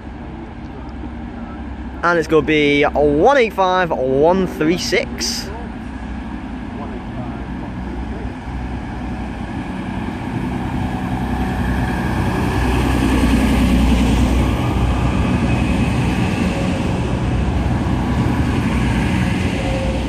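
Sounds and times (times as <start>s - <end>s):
diesel train engines humming: 0.0s - 20.0s.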